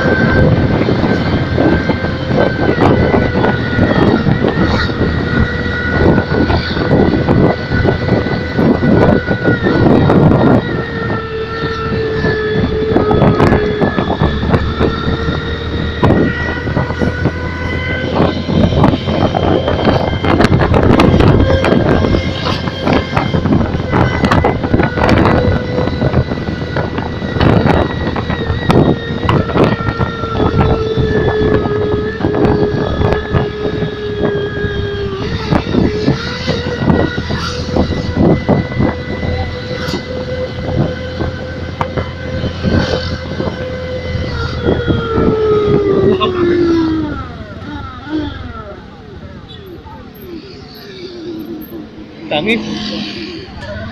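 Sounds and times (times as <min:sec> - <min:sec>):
motorcycle engine whining: 0:00.0 - 0:53.9.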